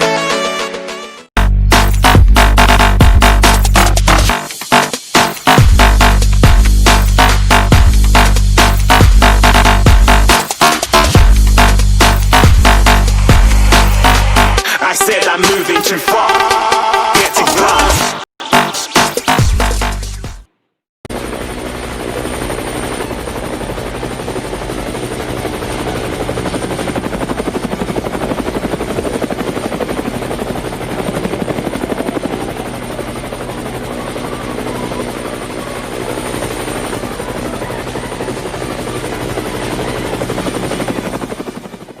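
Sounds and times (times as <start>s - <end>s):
helicopter rotor chopping: 1.7s - 20.0s, 21.1s - 42.0s.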